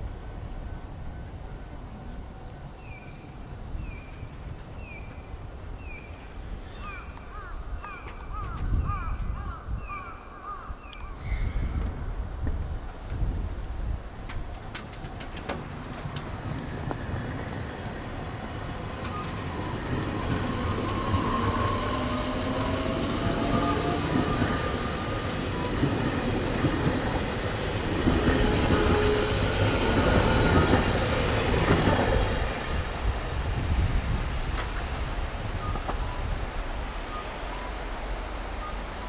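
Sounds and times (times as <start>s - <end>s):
train wheels rumbling on rail: 0.0s - 9.5s, 11.4s - 39.0s.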